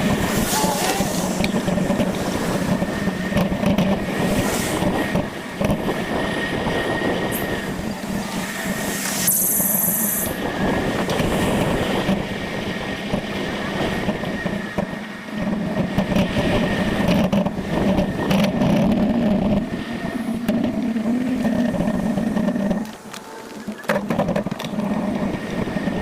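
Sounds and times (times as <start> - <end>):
bicycle road noise: 0.0 - 26.0
wind rush: 0.0 - 26.0.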